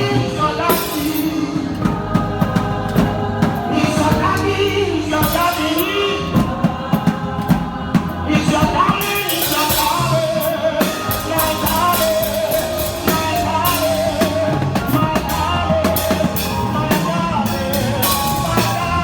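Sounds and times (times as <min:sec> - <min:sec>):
band with drums and bass: 0:00.0 - 0:19.0
voices singing gospel: 0:00.0 - 0:19.0.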